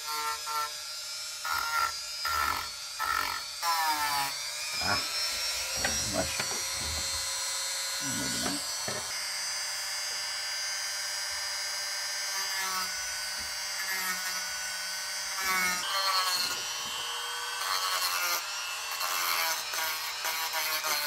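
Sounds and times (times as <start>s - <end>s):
rotary tool carving wood: 0.0s - 21.0s.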